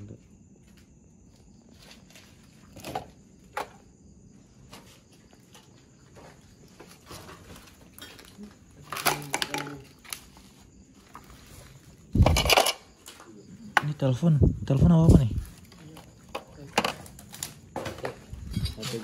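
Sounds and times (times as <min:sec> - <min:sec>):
objects clattering and knocking: 0:01.7 - 0:04.0, 0:04.6 - 0:14.2, 0:15.5 - 0:19.0.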